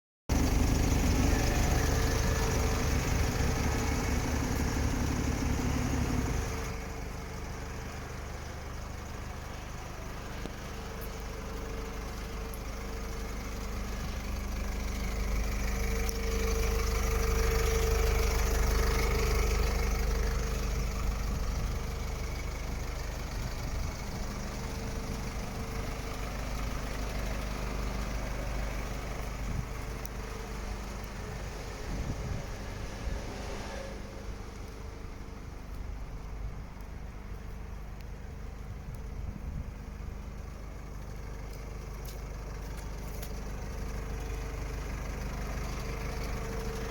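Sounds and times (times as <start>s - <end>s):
diesel truck engine idling: 0.3s - 46.9s.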